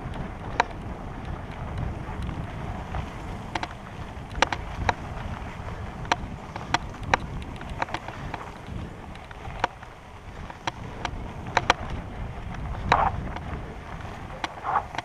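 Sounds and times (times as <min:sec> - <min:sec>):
bike clicks and rattles: 0:00.0 - 0:15.0
wind rumble on microphone: 0:00.0 - 0:15.0.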